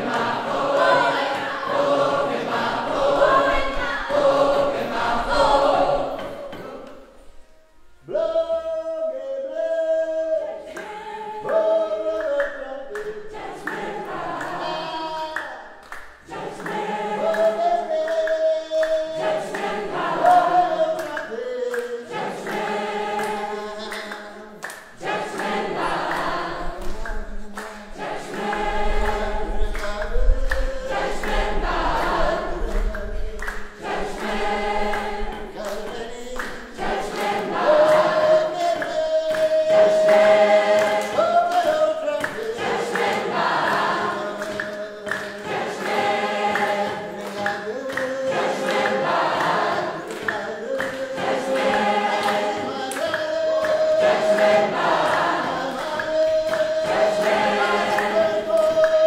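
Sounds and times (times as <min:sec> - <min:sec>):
hand claps: 0:00.0 - 0:05.1, 0:06.0 - 0:07.0, 0:10.7 - 0:59.0
group singing in chorus: 0:00.0 - 0:59.0.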